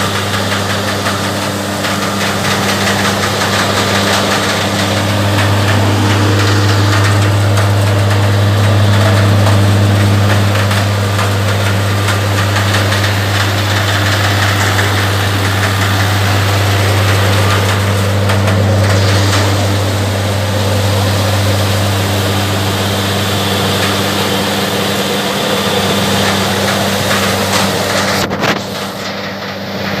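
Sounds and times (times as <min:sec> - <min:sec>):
orchard blower droning: 0:00.0 - 0:30.0.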